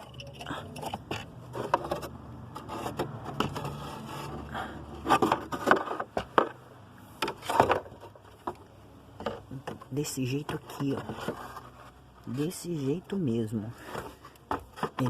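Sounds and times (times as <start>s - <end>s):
plastic scraping and rubbing: 0.0s - 6.6s, 7.2s - 12.5s, 13.7s - 15.0s.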